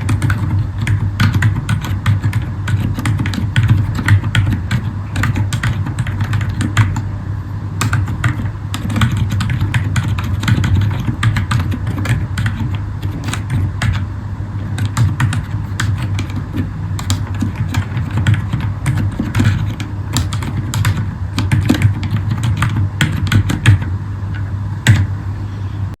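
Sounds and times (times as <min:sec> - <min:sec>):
soft keyboard typing: 0:00.0 - 0:07.1, 0:07.8 - 0:14.1, 0:14.7 - 0:25.1
steady low hum: 0:00.0 - 0:26.0.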